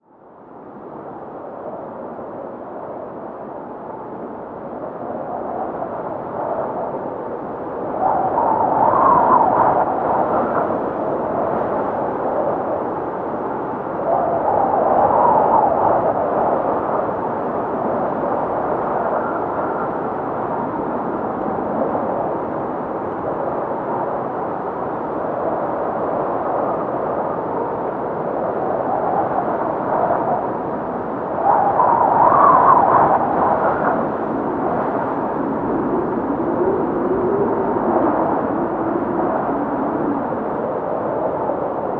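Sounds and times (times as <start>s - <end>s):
blizzard wind howling: 0.0s - 41.9s.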